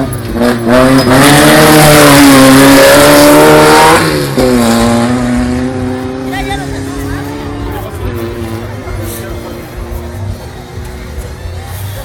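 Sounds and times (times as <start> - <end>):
race car engine at high revs: 0.0 - 10.4.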